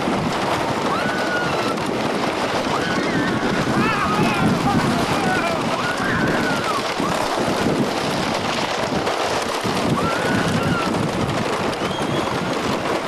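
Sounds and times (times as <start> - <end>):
roller coaster rumble and rattle: 0.0 - 13.0
wind rushing over microphone: 0.0 - 13.0
riders shrieking: 0.6 - 12.9.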